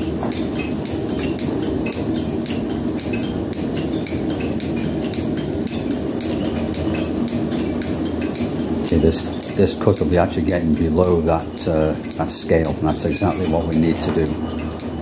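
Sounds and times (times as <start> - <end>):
fast even ticking: 0.0 - 15.0.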